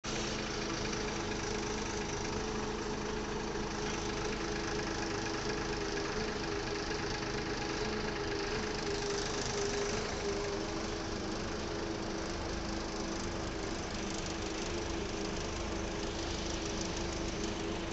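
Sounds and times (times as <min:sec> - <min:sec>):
diesel engine running: 0:00.1 - 0:17.9.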